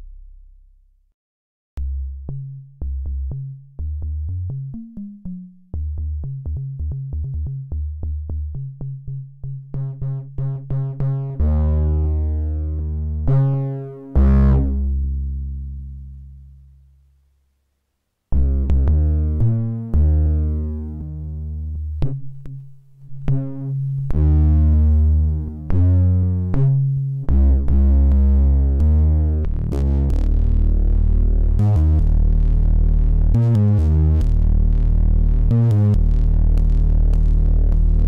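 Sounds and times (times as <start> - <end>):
deep synthesizer bass notes: 0.0 - 1.1, 1.8 - 17.0, 18.3 - 38.0.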